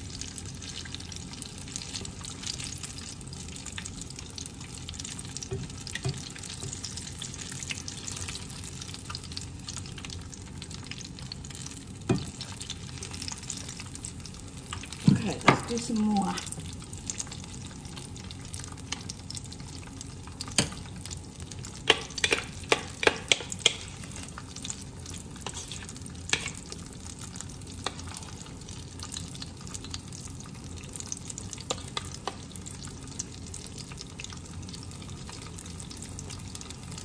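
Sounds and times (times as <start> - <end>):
batter sizzling in hot oil: 0.0 - 37.0.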